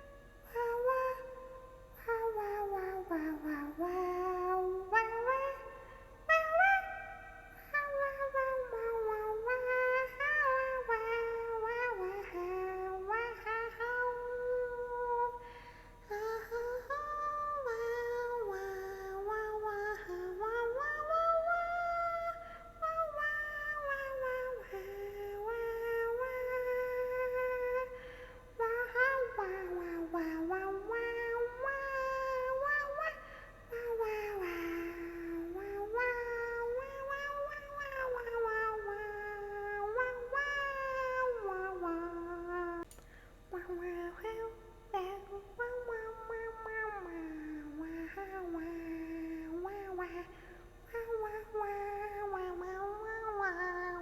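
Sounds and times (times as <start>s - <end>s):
woman singing wordlessly: 0.0s - 54.0s.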